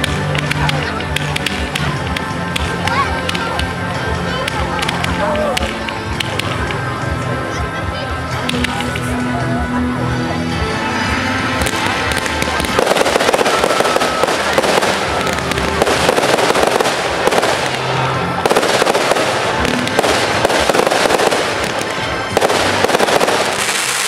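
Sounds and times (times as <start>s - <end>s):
fireworks crackling: 0.0s - 7.0s, 8.4s - 9.3s, 10.9s - 24.0s
music: 0.0s - 24.0s.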